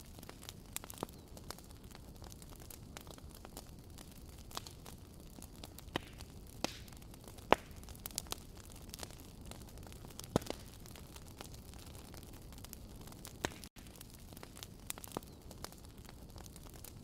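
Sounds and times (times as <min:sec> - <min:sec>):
sharp crackles and pops: 0:00.0 - 0:17.0.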